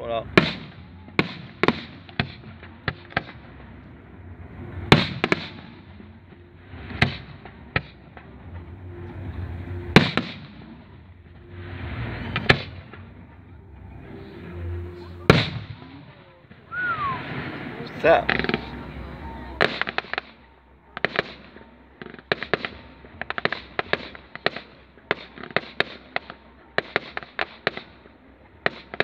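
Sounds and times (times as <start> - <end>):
low background murmur: 0.0 - 29.0
firework shells bursting: 0.2 - 29.0.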